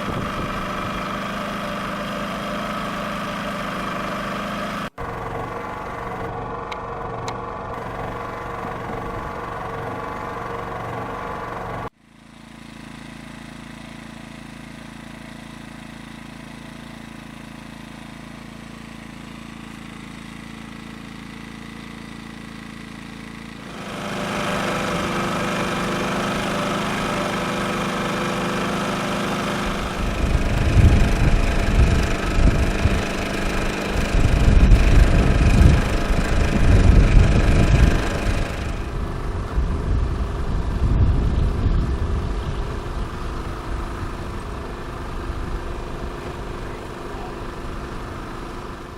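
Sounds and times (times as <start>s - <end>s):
generator humming: 0.0s - 48.9s.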